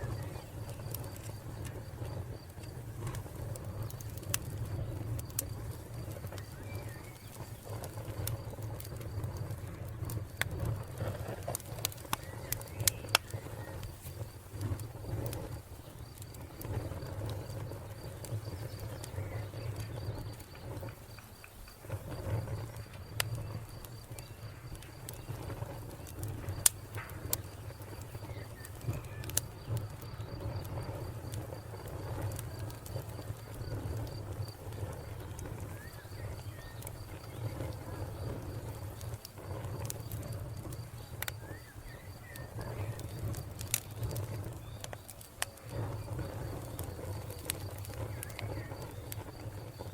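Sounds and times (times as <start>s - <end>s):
cricket chirping: 0.0s - 49.9s
wood fire crackling: 0.0s - 49.9s.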